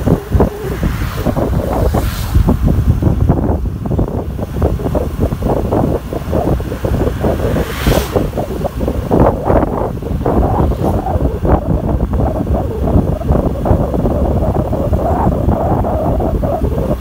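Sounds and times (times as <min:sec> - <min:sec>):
hissing wind gusts: 0:00.0 - 0:17.0
wind buffeting microphone: 0:00.0 - 0:17.0.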